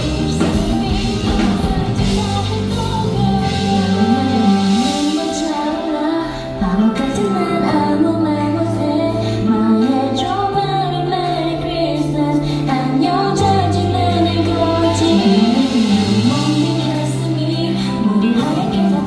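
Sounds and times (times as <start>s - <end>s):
amplified backing track: 0.0s - 19.0s
woman singing: 0.0s - 19.0s.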